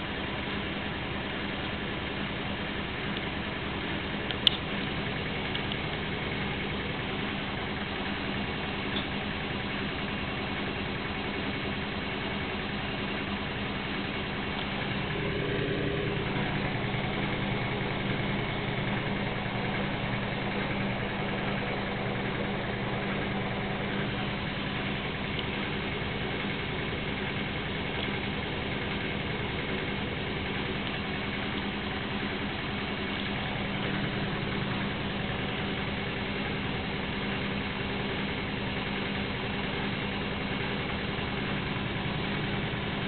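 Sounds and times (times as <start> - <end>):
washing machine spinning: 0.0 - 43.0.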